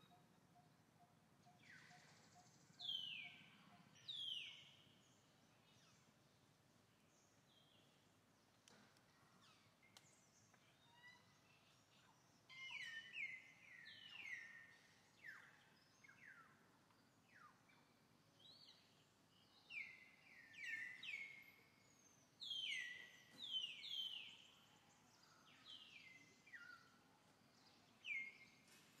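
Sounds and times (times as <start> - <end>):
faint outdoor background noise: 0.0 - 29.0.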